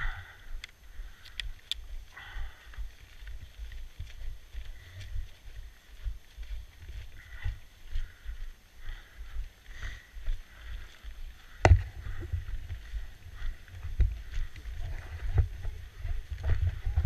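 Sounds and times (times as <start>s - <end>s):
footsteps crunching on snow: 0.1s - 17.0s.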